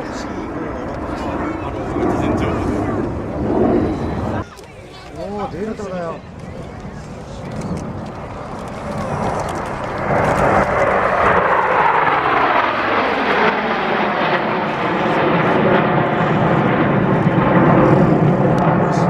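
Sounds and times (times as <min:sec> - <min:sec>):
jets flying past: 0:00.0 - 0:19.0.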